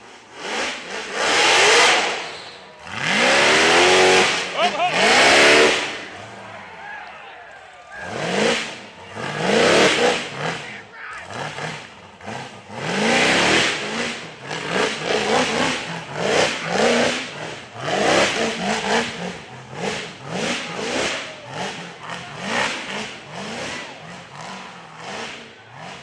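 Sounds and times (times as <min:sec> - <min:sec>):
engine revving in bursts: 0:00.0 - 0:06.8, 0:07.9 - 0:26.0.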